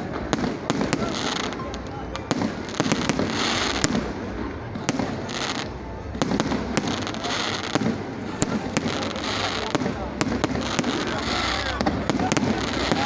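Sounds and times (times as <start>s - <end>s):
fireworks bangs: 0.0s - 13.0s
fireworks hissing crackle: 0.0s - 13.0s.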